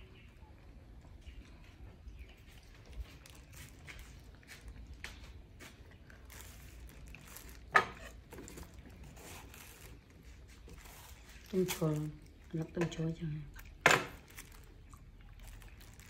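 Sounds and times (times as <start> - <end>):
monkey chewing watermelon: 0.8 - 16.0.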